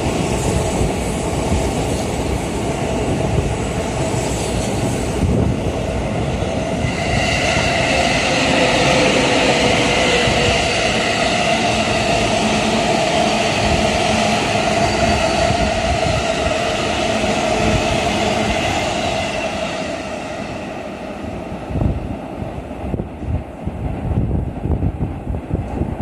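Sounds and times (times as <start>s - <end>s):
electric trains rumbling past: 0.0s - 26.0s.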